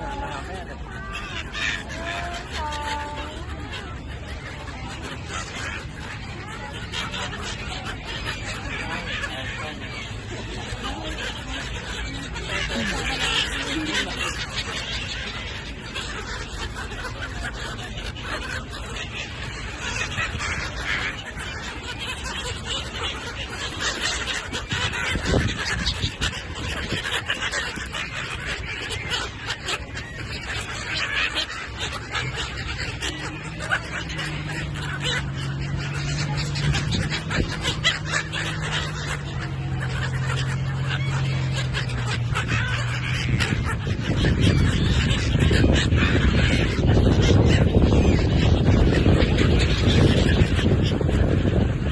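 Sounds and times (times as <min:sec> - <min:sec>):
gulls calling: 0:00.0 - 0:51.9.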